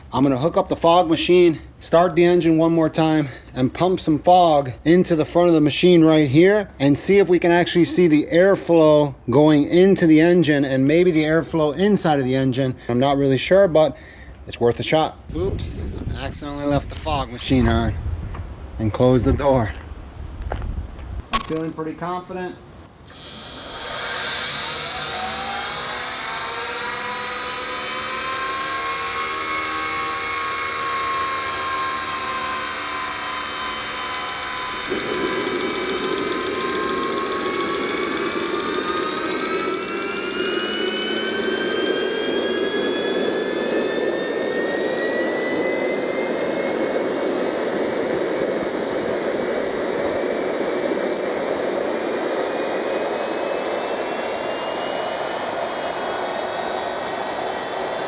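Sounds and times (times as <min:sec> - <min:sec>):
jet turbine whine: 0:00.0 - 0:20.1, 0:21.2 - 0:58.0.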